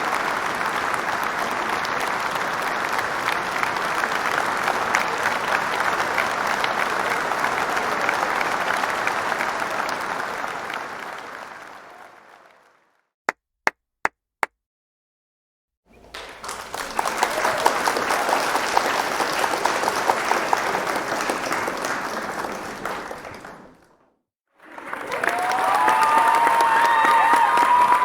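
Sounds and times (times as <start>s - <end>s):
audience applauding: 0.0s - 13.0s, 16.0s - 24.0s, 24.6s - 28.0s.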